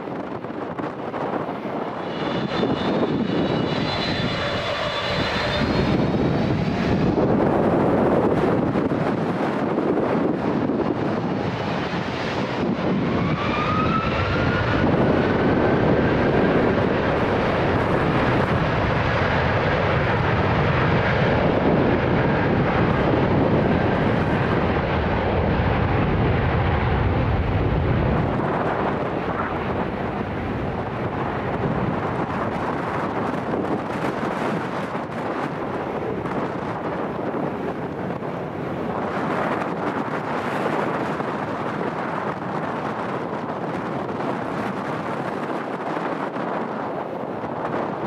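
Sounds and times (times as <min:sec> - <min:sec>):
jet engines at takeoff power: 0:00.0 - 0:48.0.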